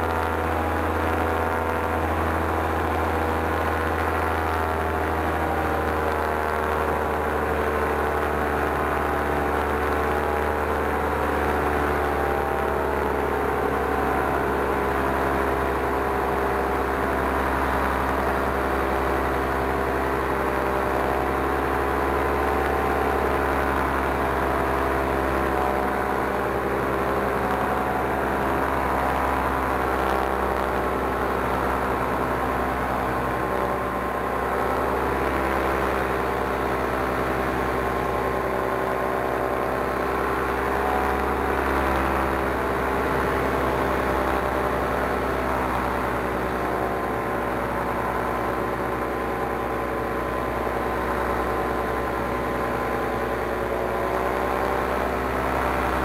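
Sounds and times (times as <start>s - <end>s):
paramotor engine and propeller: 0.0s - 56.0s.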